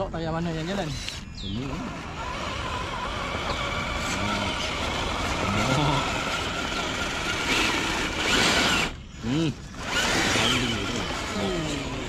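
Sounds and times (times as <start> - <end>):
electric motor whirring: 0.0 - 12.0.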